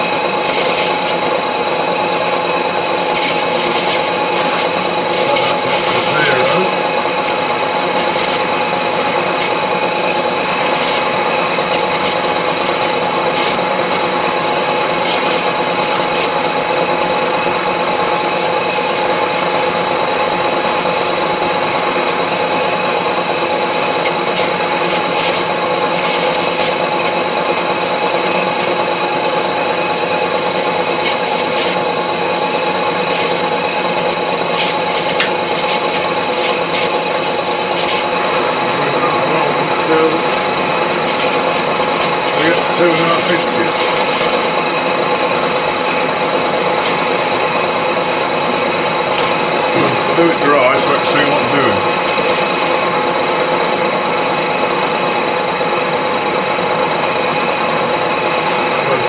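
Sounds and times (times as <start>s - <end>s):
milling machine whining: 0.0s - 59.0s.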